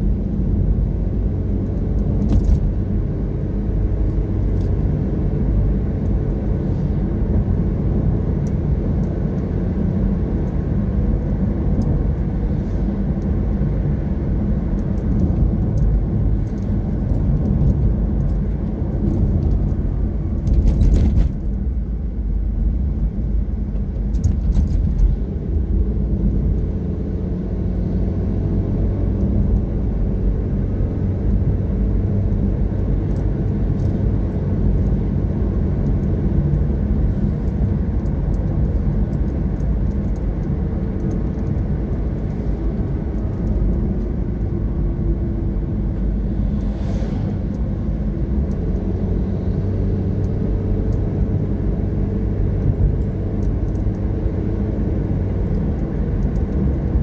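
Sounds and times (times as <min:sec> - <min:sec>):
car driving rumble: 0:00.0 - 0:57.0.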